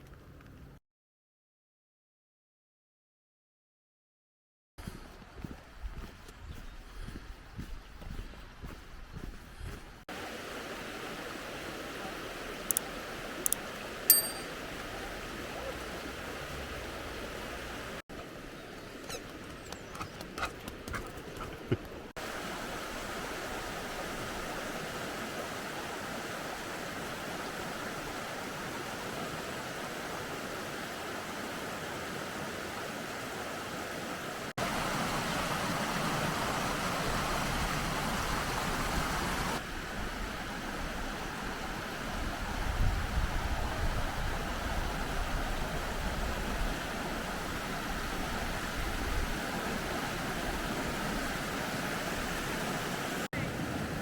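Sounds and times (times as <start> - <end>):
running water rushing: 8.4 - 19.6, 22.0 - 54.0.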